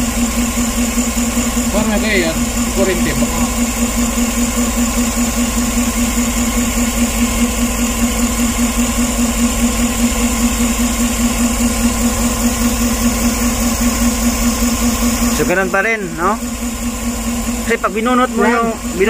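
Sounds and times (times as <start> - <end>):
engine idling roughly with misfire: 0.0 - 19.0.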